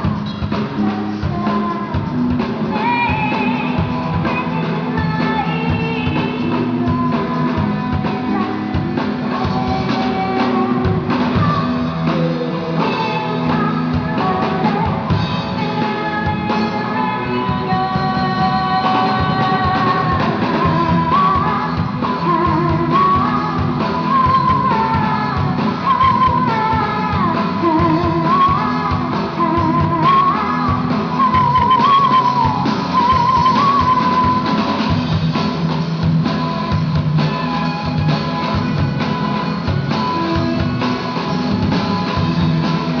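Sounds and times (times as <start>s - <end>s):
live rock band playing: 0.0s - 43.0s.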